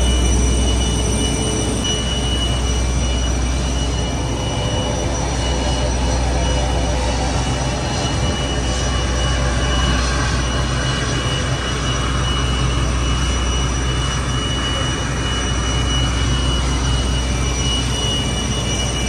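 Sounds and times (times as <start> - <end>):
aircraft auxiliary power unit running: 0.0 - 19.0
steady high whine: 0.0 - 19.0.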